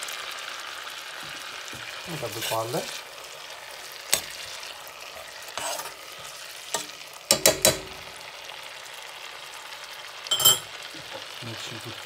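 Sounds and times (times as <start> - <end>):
butter sizzling in a pot: 0.0 - 12.0.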